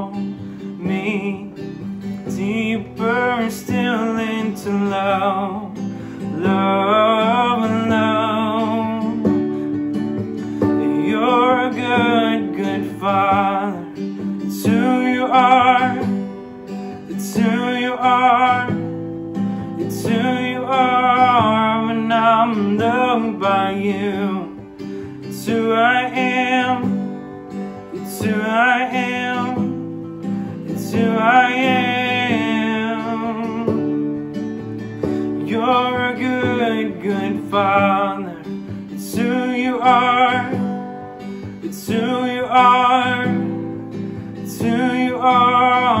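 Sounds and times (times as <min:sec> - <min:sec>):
strummed acoustic guitar: 0:00.0 - 0:46.0.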